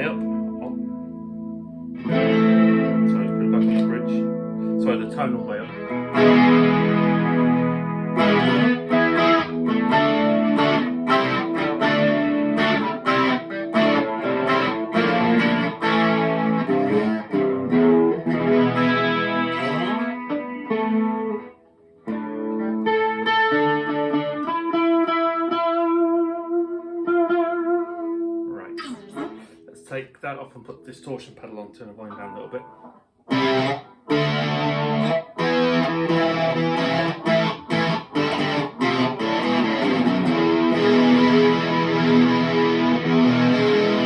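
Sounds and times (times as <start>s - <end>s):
electric guitar with chorus: 0.0s - 31.2s, 31.9s - 44.0s.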